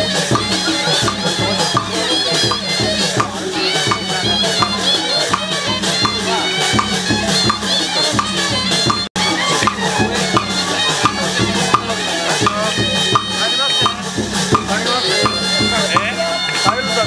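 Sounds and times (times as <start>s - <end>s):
drums and clappers beat: 0.0s - 17.0s
reedy shawm melody: 0.0s - 17.0s.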